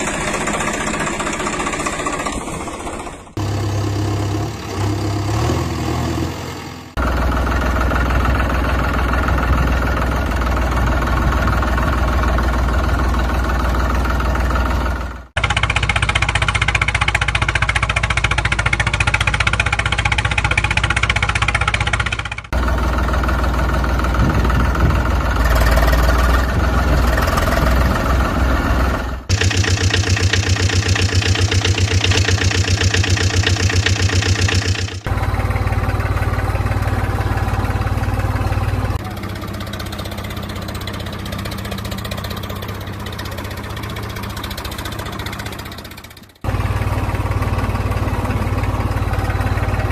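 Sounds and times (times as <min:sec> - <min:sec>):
tractor engines idling: 0:00.0 - 0:49.9.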